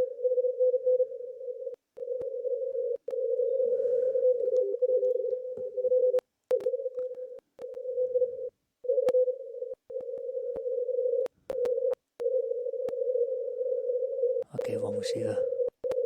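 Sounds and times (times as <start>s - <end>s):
wavering morse code tone: 0.0s - 16.0s.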